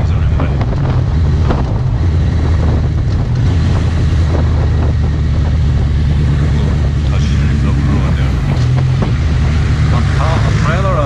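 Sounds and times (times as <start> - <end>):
motorcycle engine droning: 0.0 - 11.0
wind buffeting microphone: 0.0 - 11.0.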